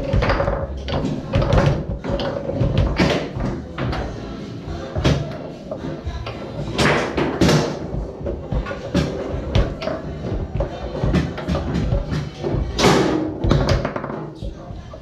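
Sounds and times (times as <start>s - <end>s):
foosball ball knocks and slams: 0.0s - 4.1s, 4.9s - 5.5s, 6.7s - 14.4s.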